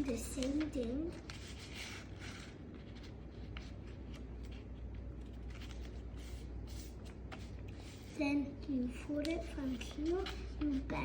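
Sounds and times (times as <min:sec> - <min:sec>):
paper rustling and crinkling: 0:00.0 - 0:08.2, 0:08.9 - 0:11.0
low steady hum: 0:00.0 - 0:11.0.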